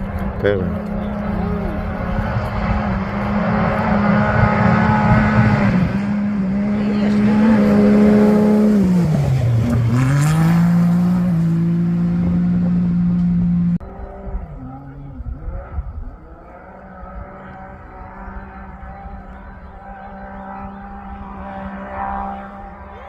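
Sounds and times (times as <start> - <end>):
rally vehicle engine running hard: 0.0 - 23.0.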